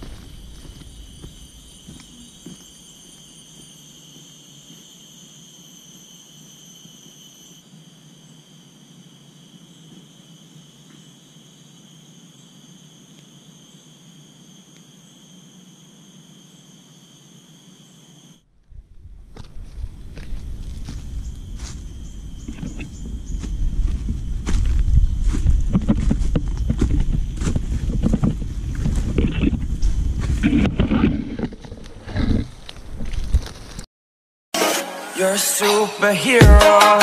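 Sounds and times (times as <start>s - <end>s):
insects droning: 0.0s - 33.9s.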